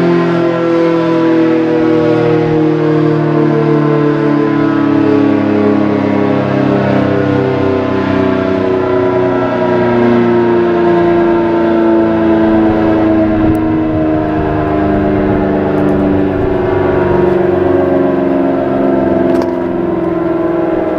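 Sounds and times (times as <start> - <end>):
warning siren: 0.0 - 20.9.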